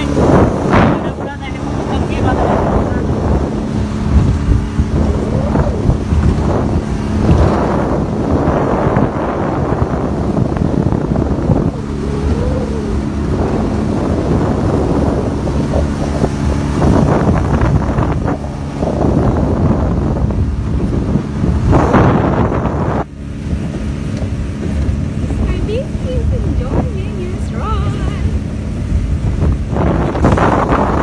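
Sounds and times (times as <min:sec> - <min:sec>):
motorboat engine running: 0:00.0 - 0:31.0
water rushing past hull: 0:00.0 - 0:31.0
wind buffeting microphone: 0:00.0 - 0:31.0.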